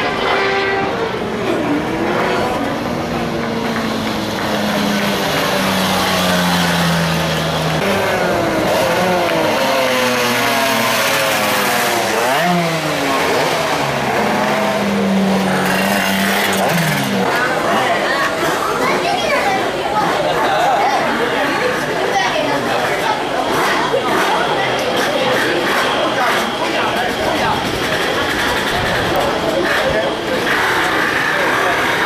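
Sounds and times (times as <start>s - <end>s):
minibike engines revving: 0.0s - 32.0s
minibike passing close: 0.0s - 32.0s.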